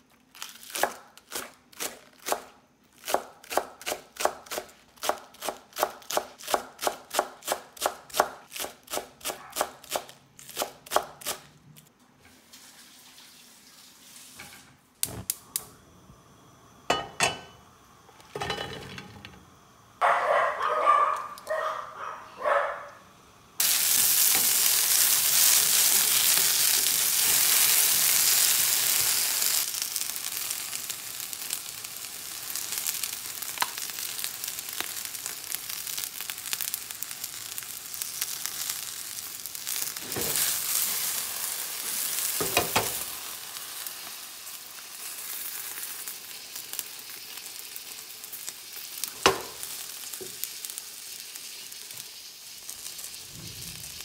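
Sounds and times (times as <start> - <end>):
okra sizzling in a pan: 0.0 - 54.0.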